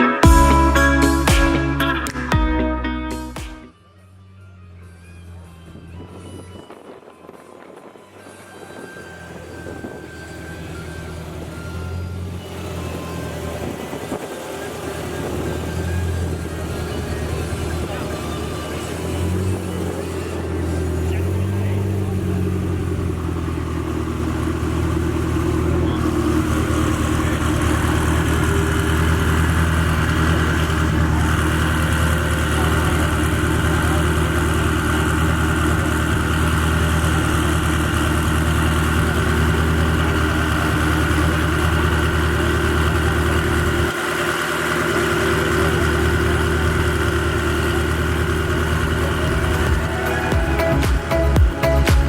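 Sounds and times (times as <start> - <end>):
car engine idling: 8.5 - 52.0.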